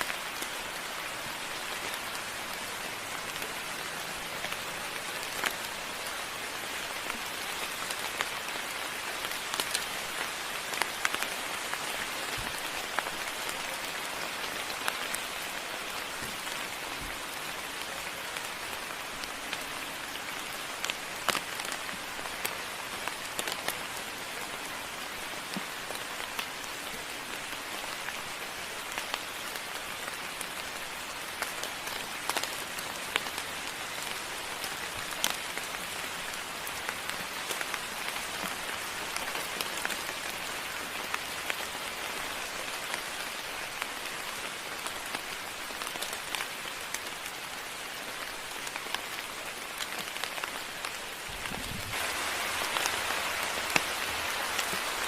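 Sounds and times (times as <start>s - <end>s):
raindrops ticking: 0.0s - 24.4s, 25.4s - 55.0s
steady rain hiss: 0.0s - 55.0s.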